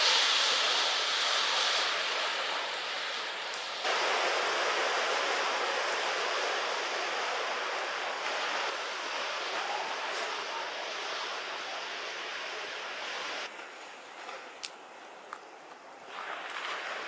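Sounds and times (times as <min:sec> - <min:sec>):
steady rushing noise: 0:00.0 - 0:13.9.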